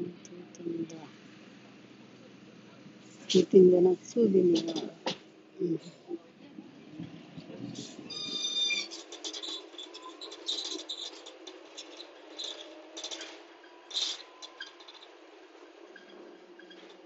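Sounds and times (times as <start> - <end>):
faint street background: 0.0 - 17.0.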